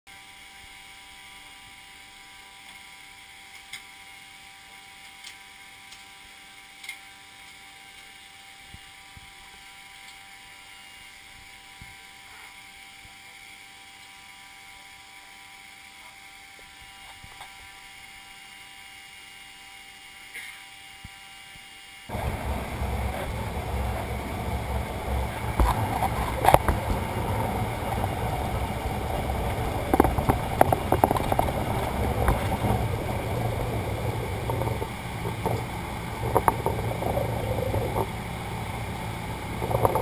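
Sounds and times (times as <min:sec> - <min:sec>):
constant whining tones: 0:00.1 - 0:40.0
steady electrical hum: 0:00.1 - 0:40.0.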